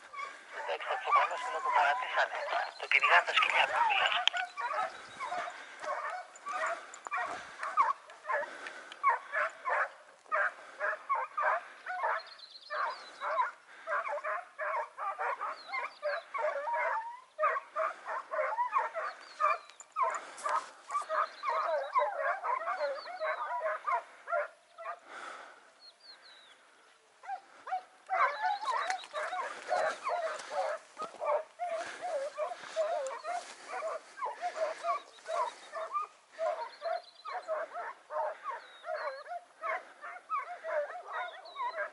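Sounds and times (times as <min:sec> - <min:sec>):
hounds barking and yelping: 0:00.0 - 0:41.9.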